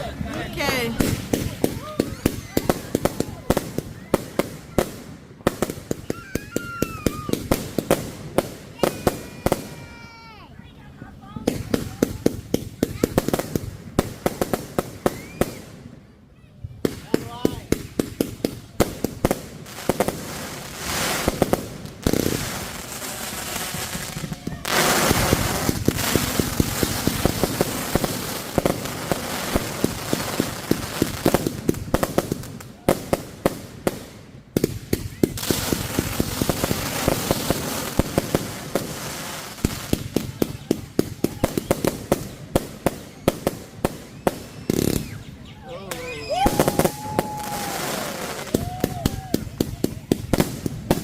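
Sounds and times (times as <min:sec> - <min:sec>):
fireworks banging and crackling: 0:00.0 - 0:51.0.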